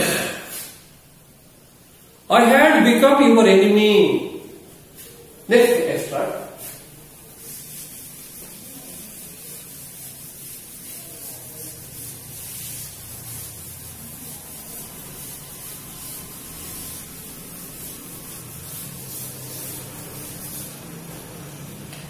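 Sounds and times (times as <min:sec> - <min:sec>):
duster scrubbing a blackboard: 0:04.2 - 0:22.0.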